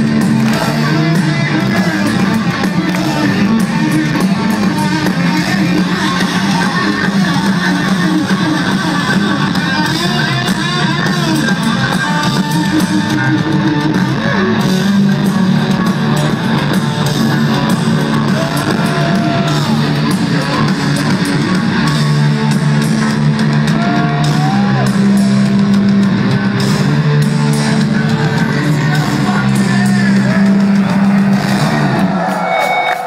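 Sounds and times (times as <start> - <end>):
heavy metal band playing: 0.0 - 33.0
sliding lead guitar notes: 0.0 - 33.0.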